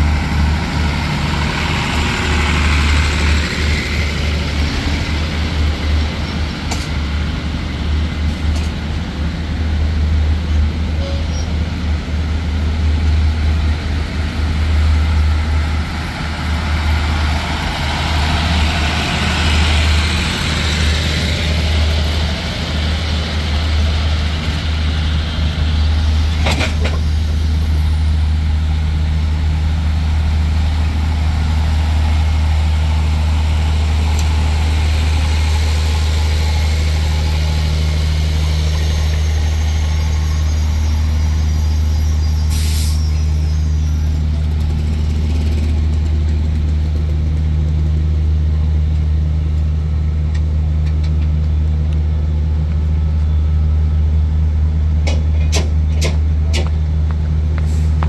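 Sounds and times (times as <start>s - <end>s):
diesel train engine hum: 0.0s - 58.0s.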